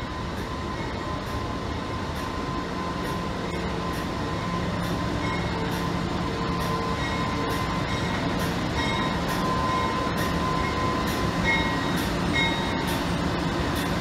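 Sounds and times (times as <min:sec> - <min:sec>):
diesel locomotive engine hum: 0:00.0 - 0:14.0.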